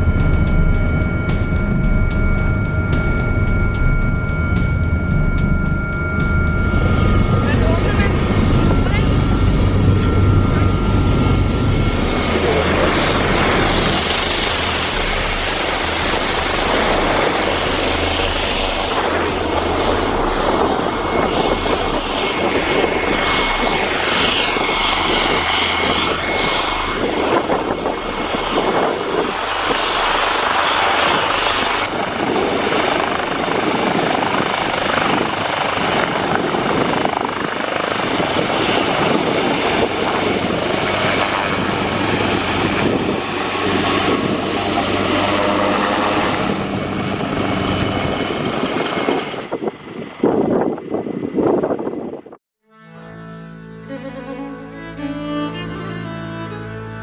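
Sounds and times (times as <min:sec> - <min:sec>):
thin high whine: 0:00.0 - 0:50.7
helicopter rotor and turbine noise: 0:00.0 - 0:52.4.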